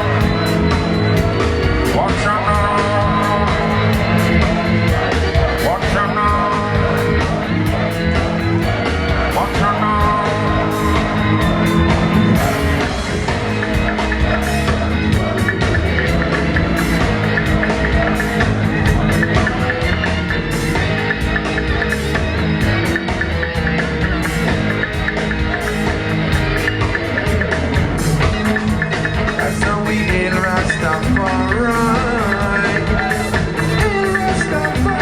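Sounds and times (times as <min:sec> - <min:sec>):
bass line: 0:00.0 - 0:35.0
reggae band playing: 0:00.0 - 0:35.0.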